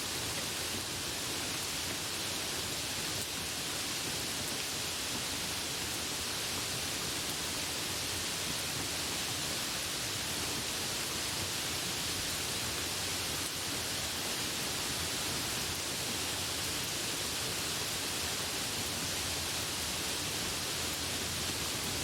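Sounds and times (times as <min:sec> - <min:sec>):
light rain hiss: 0:00.0 - 0:22.0.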